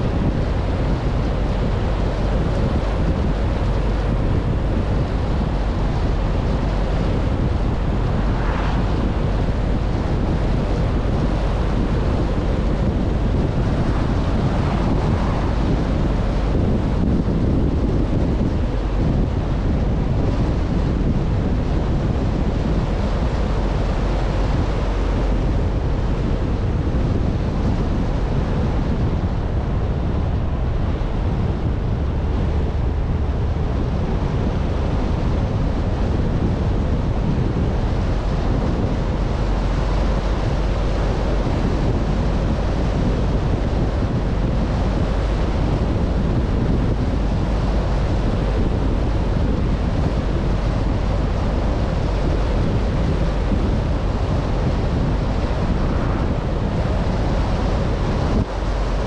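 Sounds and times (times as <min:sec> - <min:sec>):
low rumble: 0:00.0 - 0:59.0
wind buffeting microphone: 0:00.0 - 0:59.0.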